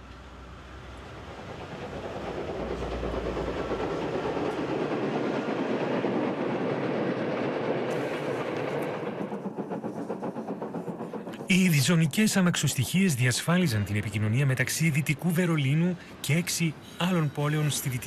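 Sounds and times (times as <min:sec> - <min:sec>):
steam train passing: 0:00.0 - 0:18.0
wheels clickety-clack over rail joints: 0:00.0 - 0:18.0.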